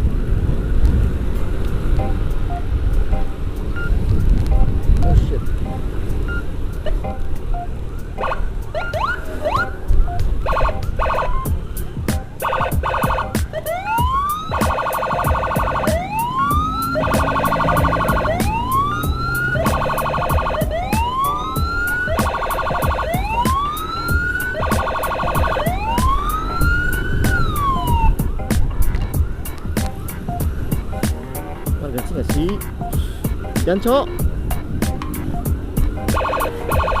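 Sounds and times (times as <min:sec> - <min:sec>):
electronic siren wailing and yelping: 0:02.0 - 0:37.0.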